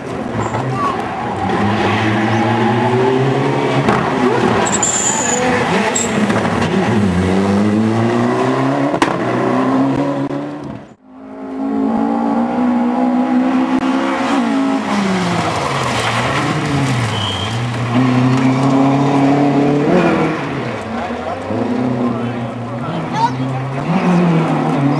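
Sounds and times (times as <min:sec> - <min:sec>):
rally car engine revving: 0:00.0 - 0:24.9.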